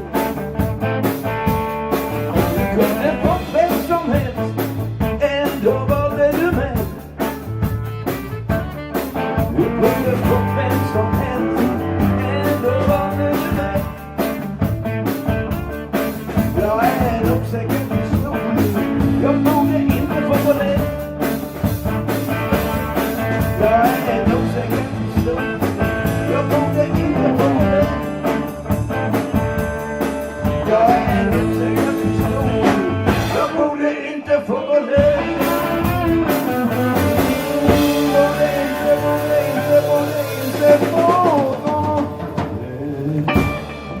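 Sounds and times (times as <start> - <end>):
electric guitar bending notes: 0.0 - 33.5, 35.0 - 44.0
live blues band playing: 0.0 - 44.0.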